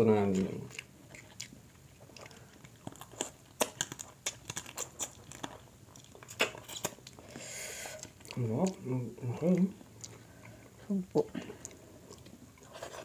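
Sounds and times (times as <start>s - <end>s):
chewing and biting: 0.2s - 7.4s, 8.0s - 13.0s.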